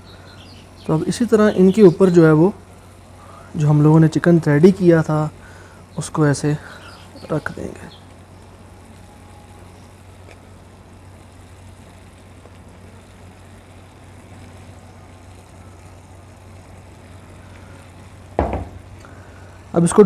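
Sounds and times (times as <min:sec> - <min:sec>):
faint hiss: 0:00.0 - 0:20.0
steady low hum: 0:00.0 - 0:20.0.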